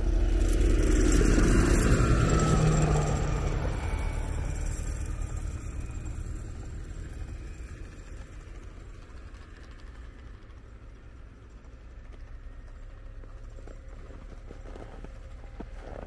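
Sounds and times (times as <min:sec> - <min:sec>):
passing vehicle engine: 0:00.0 - 0:16.0.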